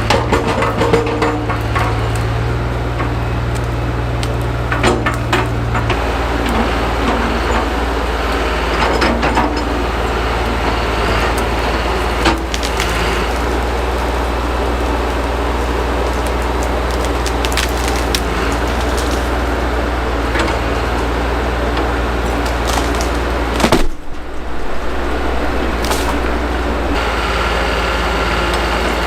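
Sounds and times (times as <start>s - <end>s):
excavator engine running: 0.0s - 29.0s
wood cracking and splintering: 0.0s - 29.0s.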